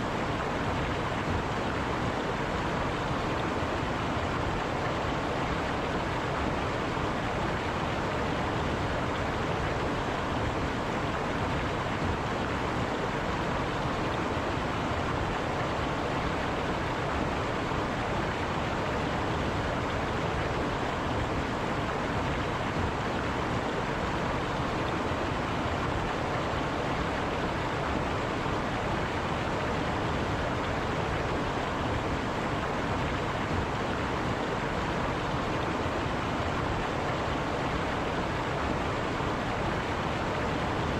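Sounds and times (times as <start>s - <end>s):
river water running over rocks: 0.0s - 40.9s.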